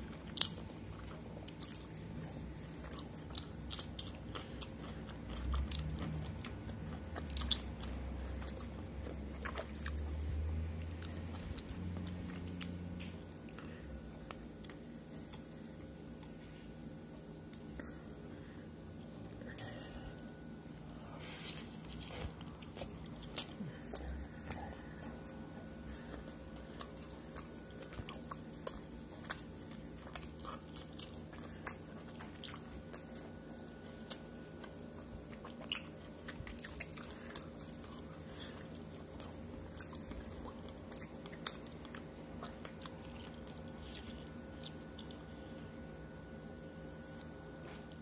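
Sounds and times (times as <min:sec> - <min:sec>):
steady low hum: 0:00.0 - 0:48.0
chewing and biting food: 0:00.1 - 0:15.5, 0:20.9 - 0:45.6.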